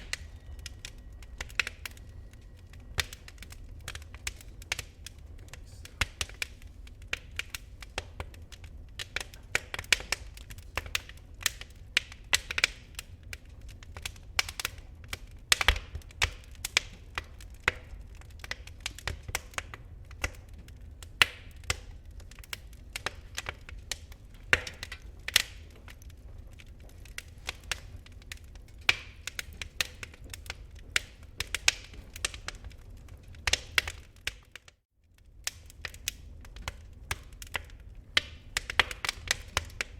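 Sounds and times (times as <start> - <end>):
low rumble of embers: 0.0 - 39.9
wood fire crackling: 0.0 - 39.9.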